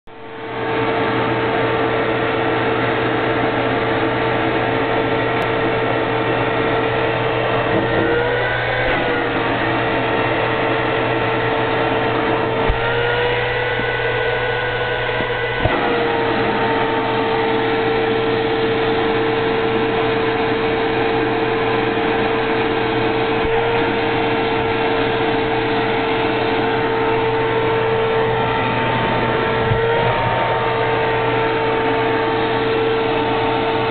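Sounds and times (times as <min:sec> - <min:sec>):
vacuum cleaner motor whine: 0:00.1 - 0:33.9.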